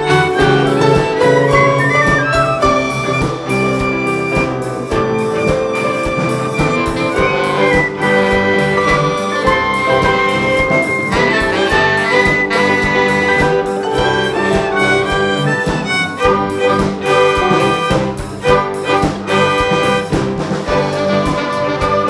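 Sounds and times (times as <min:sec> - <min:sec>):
light percussion: 0:00.0 - 0:22.0
orchestra playing: 0:00.0 - 0:22.0.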